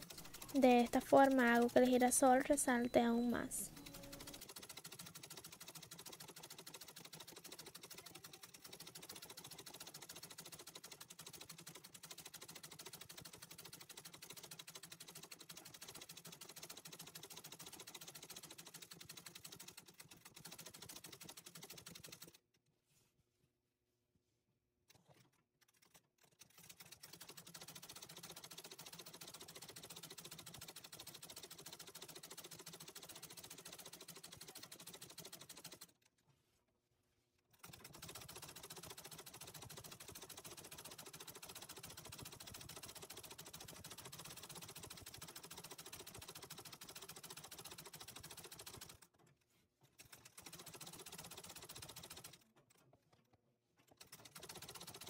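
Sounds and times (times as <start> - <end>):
treadle sewing machine stitching: 0.0 - 22.4, 24.9 - 36.1, 37.5 - 52.8, 53.8 - 55.0.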